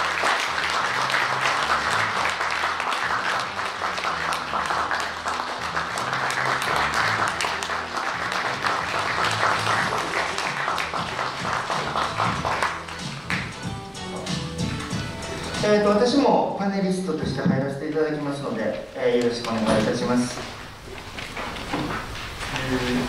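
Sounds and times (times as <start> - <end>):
audience applauding: 0.0 - 15.6, 19.1 - 23.0
background music: 0.0 - 20.4.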